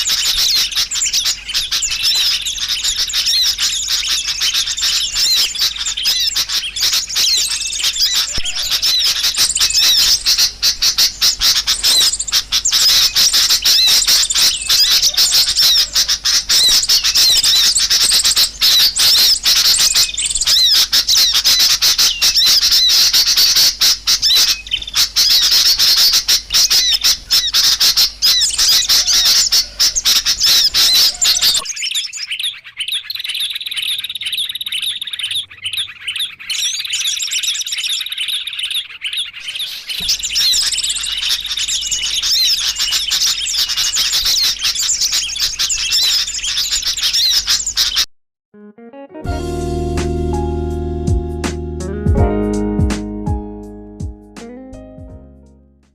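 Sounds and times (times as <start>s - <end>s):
small birds chirping: 0.0s - 48.1s.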